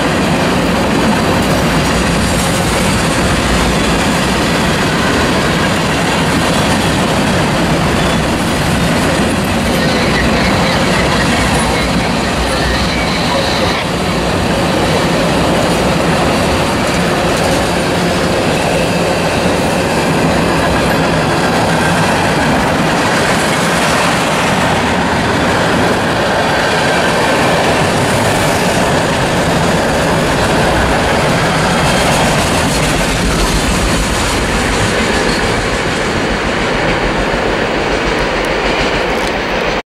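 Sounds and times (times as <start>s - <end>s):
freight train wheels on rails: 0.0s - 39.8s.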